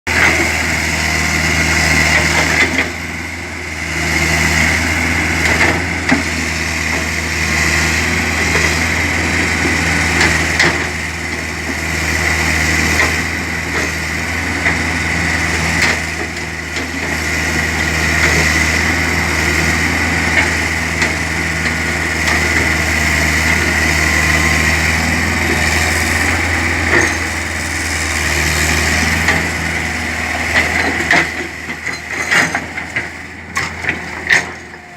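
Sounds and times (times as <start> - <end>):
excavator engine hum and whine: 0.1 - 34.9.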